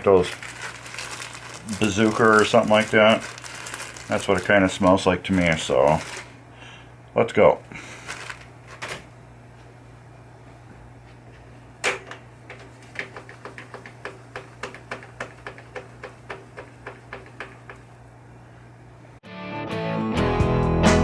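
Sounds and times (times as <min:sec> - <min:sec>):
low steady hum: 0:00.0 - 0:19.2.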